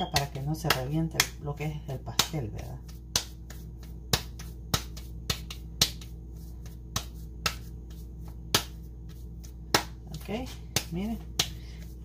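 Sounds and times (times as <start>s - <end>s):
hands patting dough: 0.0s - 12.0s.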